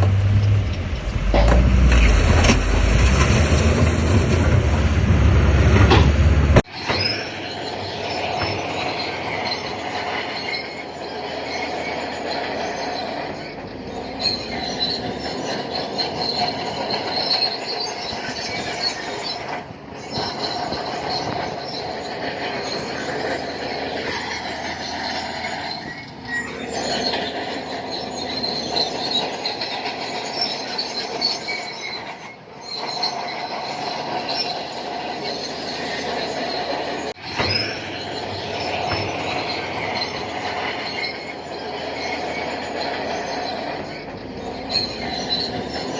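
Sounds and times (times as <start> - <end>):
diesel engine running: 0.0 - 31.6, 33.4 - 45.9
bulldozer tracks squealing and clanking: 0.0 - 45.9.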